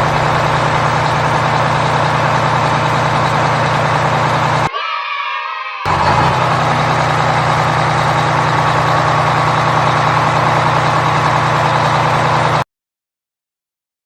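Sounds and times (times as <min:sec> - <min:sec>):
vehicle engine idling: 0:00.0 - 0:04.7, 0:05.9 - 0:12.6.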